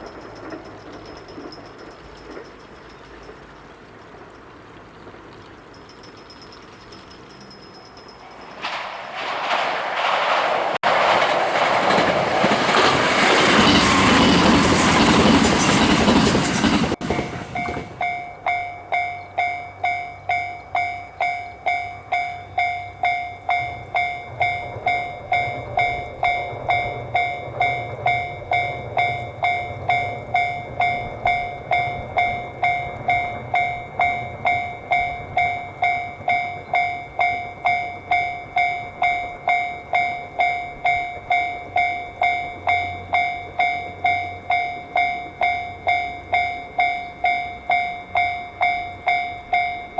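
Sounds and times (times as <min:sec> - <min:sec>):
level crossing warning bell ringing: 0:05.7 - 0:09.7, 0:12.4 - 0:49.9
electric train rushing past: 0:07.6 - 0:49.9.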